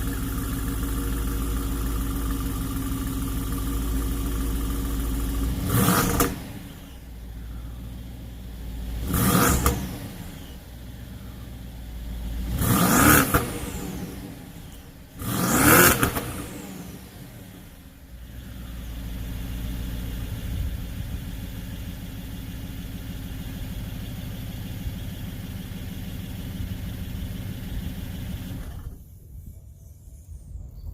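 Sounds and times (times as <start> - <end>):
car engine revving and idling: 0.0 - 29.1.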